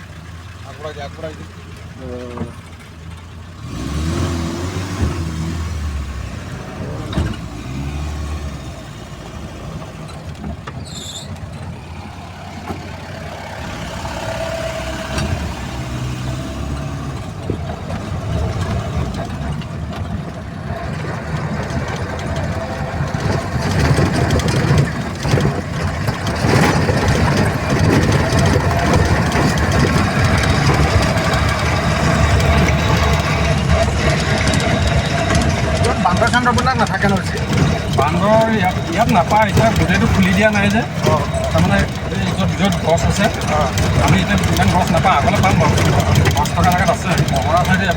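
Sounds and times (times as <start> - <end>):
vehicle engine on rough track: 0.0 - 47.9.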